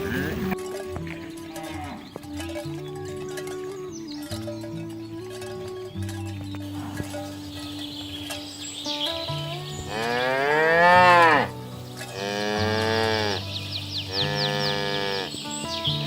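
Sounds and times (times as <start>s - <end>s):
cows mooing: 0.0s - 16.0s.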